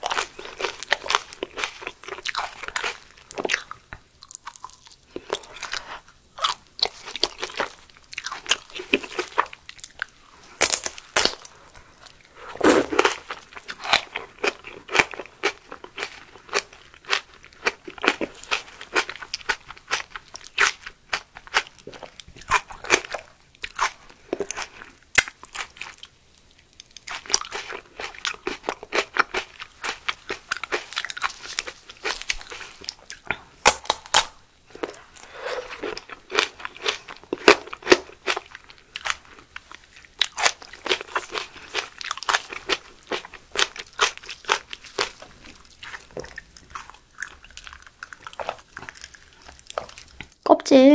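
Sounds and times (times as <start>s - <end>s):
crunchy chewing of leaf: 0.0s - 26.1s, 26.7s - 50.3s.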